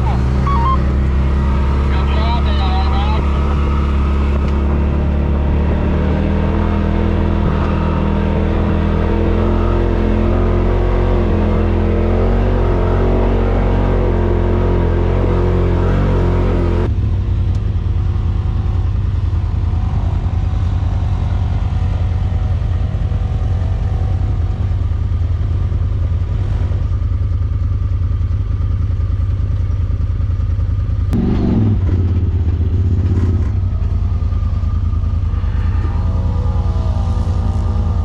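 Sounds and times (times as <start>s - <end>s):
utility vehicle engine at low revs: 0.0s - 38.0s.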